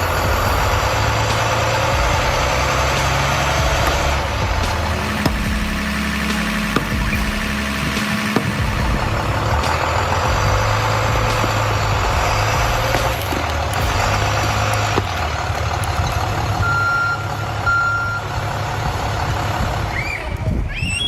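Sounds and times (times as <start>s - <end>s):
heavy vehicle engine running: 0.0s - 20.6s.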